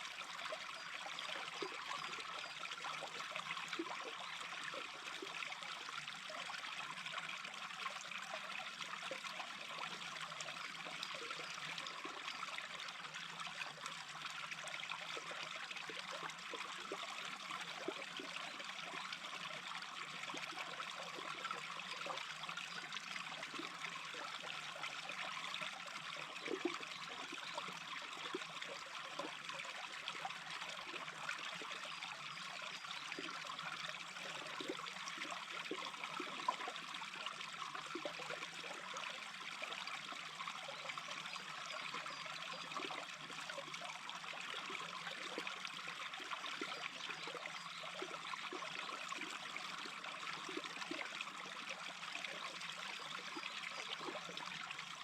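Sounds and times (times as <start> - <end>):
brook babbling: 0.0 - 55.0.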